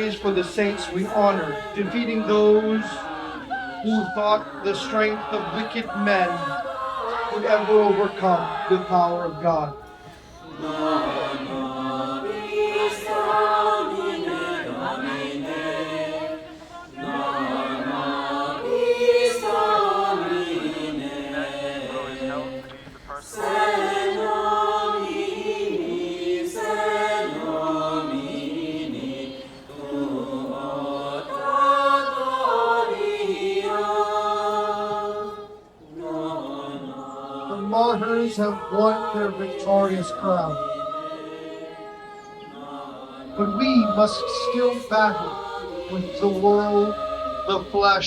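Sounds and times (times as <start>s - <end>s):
voices chanting in unison: 0.0s - 48.0s.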